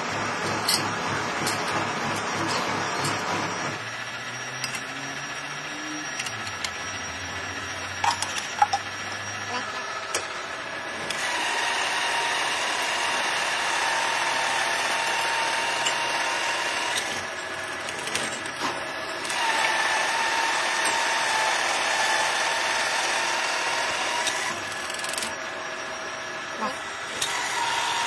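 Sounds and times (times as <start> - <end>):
drill press cutting steel: 0.0 - 28.0.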